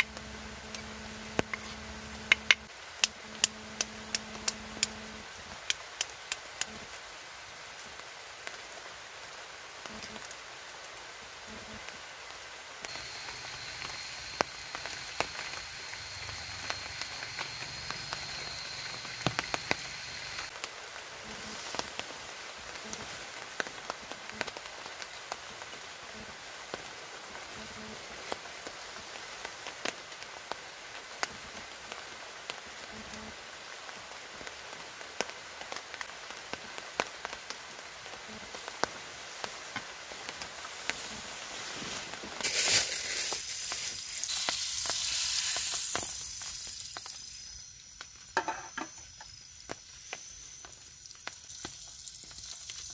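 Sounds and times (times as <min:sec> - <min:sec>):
camping stove burning: 0:00.0 - 0:52.9
rain on a tarp: 0:00.0 - 0:52.9.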